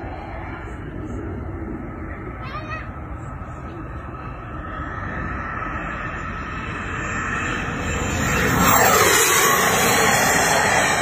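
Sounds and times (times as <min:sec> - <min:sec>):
model jet engine rushing: 0:00.0 - 0:11.0.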